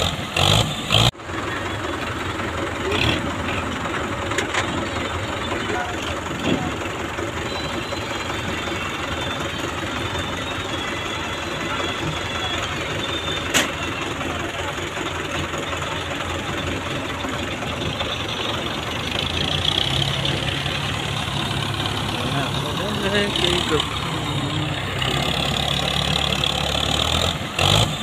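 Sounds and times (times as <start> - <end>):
tractor diesel engine running: 0.0 - 28.0
second engine low hum: 0.1 - 28.0.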